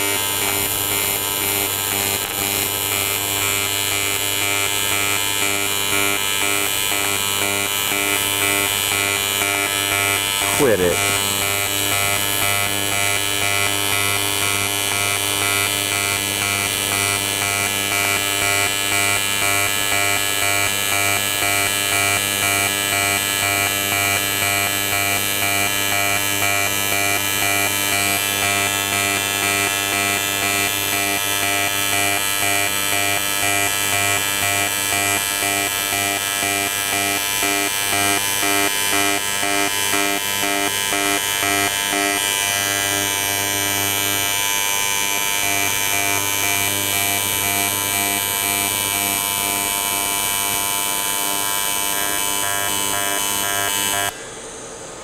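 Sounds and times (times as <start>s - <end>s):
welding arc buzzing: 0.0s - 55.0s.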